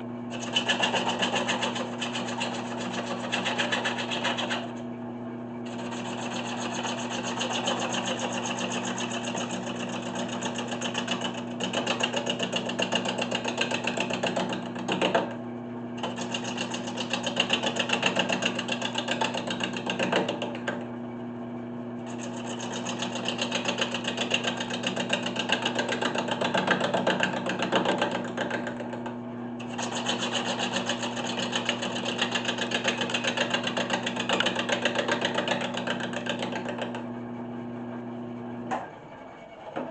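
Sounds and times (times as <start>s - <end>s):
gouge cutting spinning wood: 0.0s - 4.8s, 5.6s - 15.4s, 16.0s - 20.9s, 22.0s - 37.0s
lathe motor hum: 0.0s - 15.4s, 16.0s - 21.0s, 22.0s - 39.9s.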